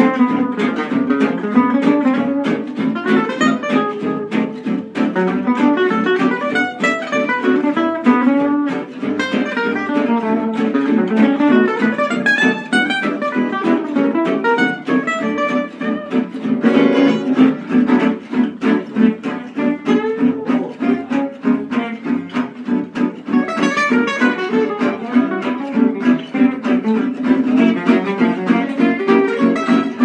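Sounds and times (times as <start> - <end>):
fast lead guitar line: 0.0 - 30.0
strummed rhythm guitar: 0.0 - 30.0.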